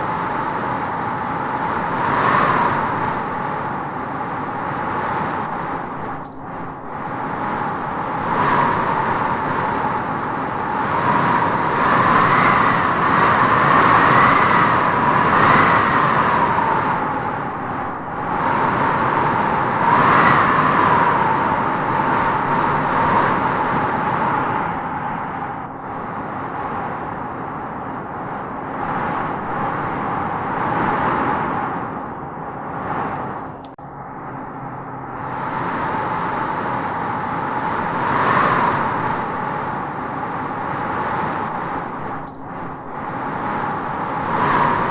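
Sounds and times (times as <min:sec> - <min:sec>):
wind howling in gusts: 0:00.0 - 0:44.9.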